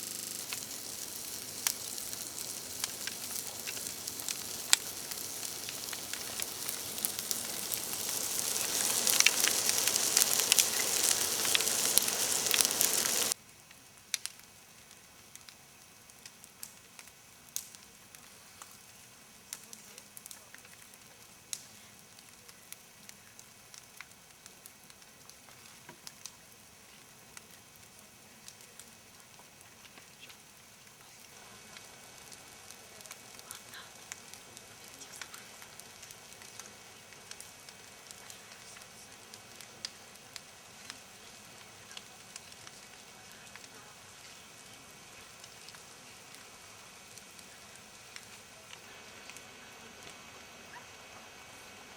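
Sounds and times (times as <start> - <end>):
fire pops: 0.0 - 50.3
campfire crackling and hissing: 0.0 - 51.9.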